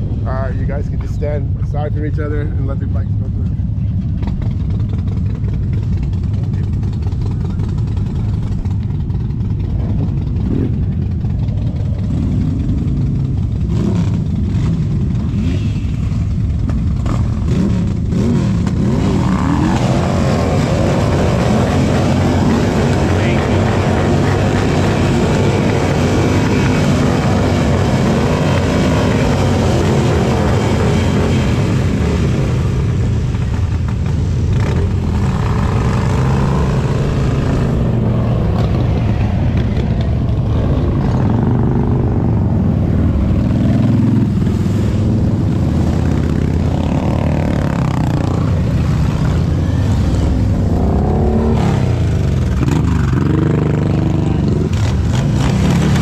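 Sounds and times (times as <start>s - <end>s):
motorcycle engines passing: 0.0s - 56.0s.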